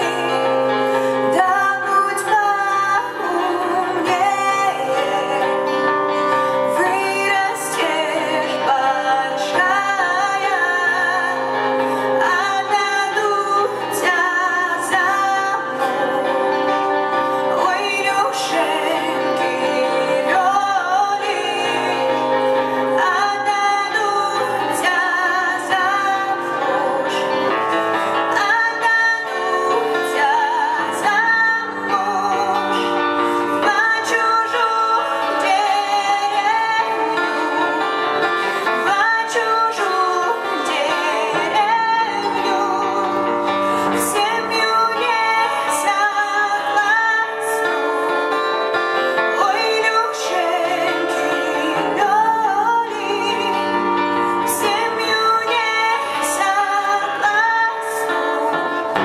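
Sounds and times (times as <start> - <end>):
live band playing: 0.0 - 59.0
woman singing: 0.0 - 59.0.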